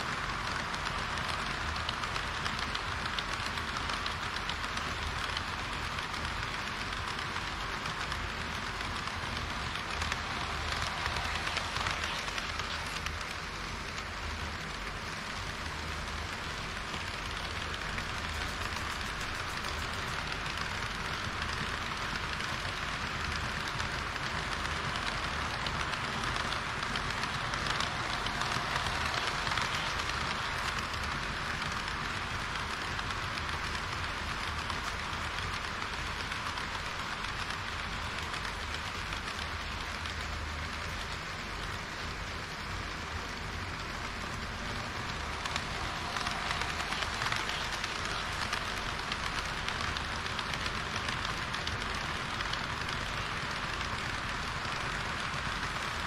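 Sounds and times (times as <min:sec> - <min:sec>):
model train wheels rolling on rail: 0:00.0 - 0:56.0
rail joint clicks: 0:00.1 - 0:56.0.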